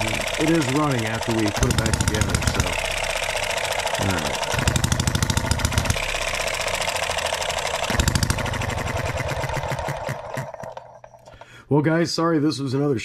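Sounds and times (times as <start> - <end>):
model engine firing knocks: 0.0 - 11.2.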